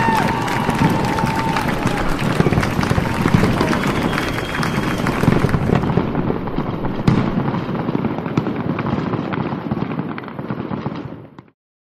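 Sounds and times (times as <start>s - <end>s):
fireworks cracking and banging: 0.0s - 11.6s.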